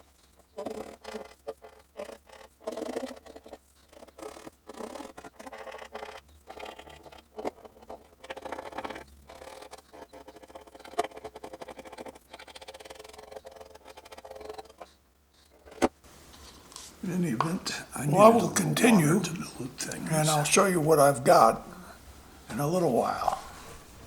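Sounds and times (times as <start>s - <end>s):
scratching and scraping: 0.0s - 24.0s.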